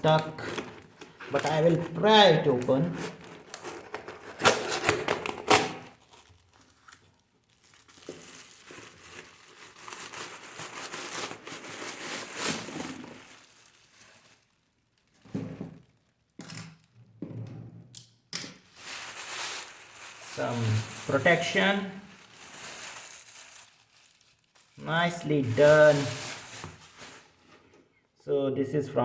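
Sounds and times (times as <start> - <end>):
packaging tearing: 0.0 - 15.2, 18.6 - 27.4
packaging rustling: 0.0 - 16.9, 18.6 - 27.8.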